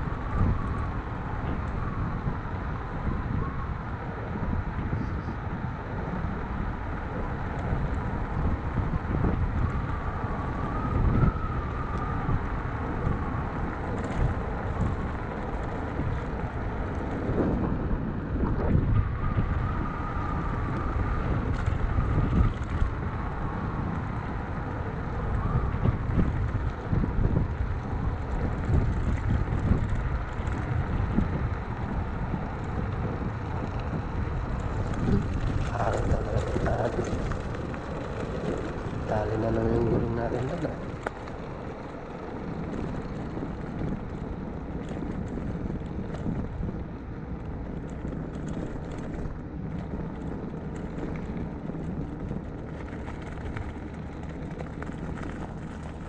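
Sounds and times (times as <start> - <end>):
scooter road rumble: 0.0 - 56.0
wind buffeting microphone: 0.0 - 56.0.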